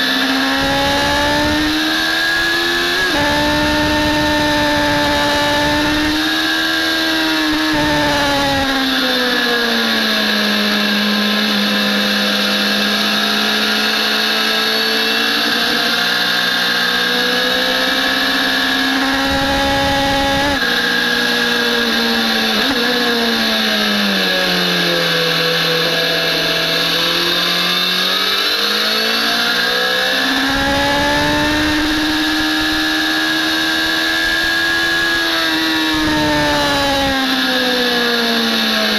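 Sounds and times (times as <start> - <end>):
motorcycle engine at speed: 0.0 - 38.9.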